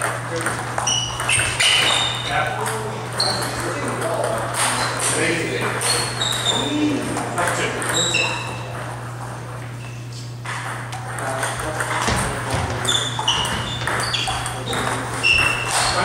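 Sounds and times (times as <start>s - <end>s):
table tennis ball pinging: 0.0s - 9.0s, 10.4s - 16.0s
steady low hum: 0.0s - 16.0s.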